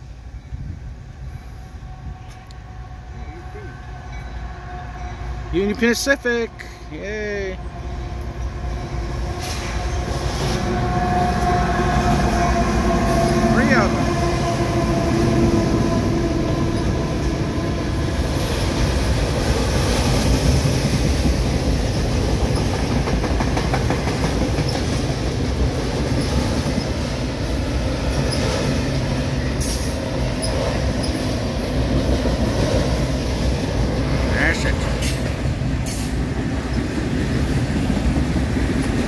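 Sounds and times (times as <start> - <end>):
diesel locomotive engine: 0.0 - 39.0
train wheels rumbling on rail: 0.0 - 39.0.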